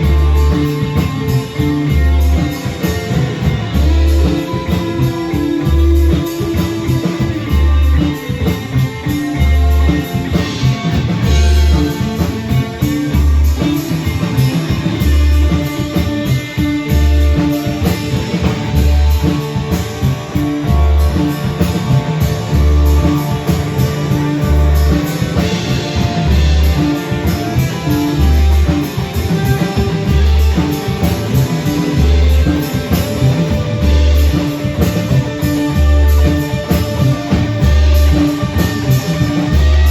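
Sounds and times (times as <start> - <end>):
live band playing: 0.0 - 39.9.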